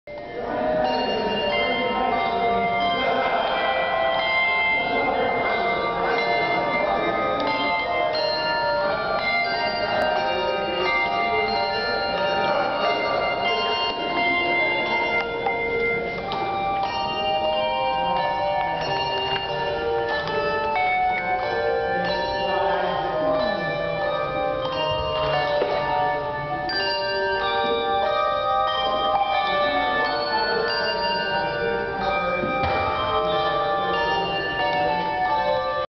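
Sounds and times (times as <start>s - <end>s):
handbell choir playing: 0.1s - 35.9s.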